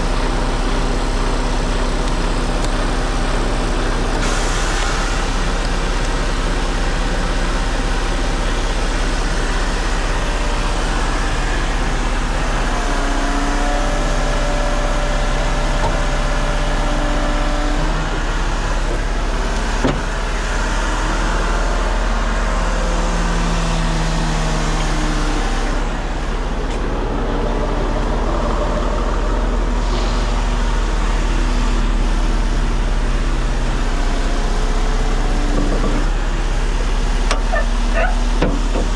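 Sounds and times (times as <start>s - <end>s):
heavy truck engine droning: 0.0s - 38.9s.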